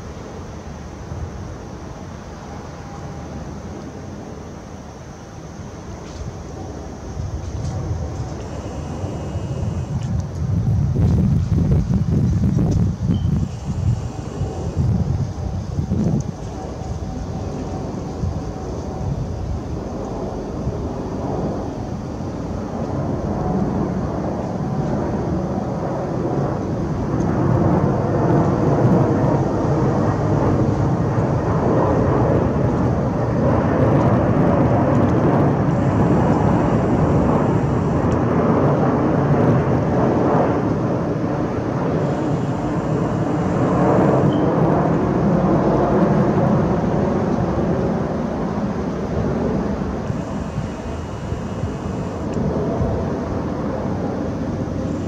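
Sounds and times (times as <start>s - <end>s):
jet engines rumbling overhead: 0.0s - 55.0s.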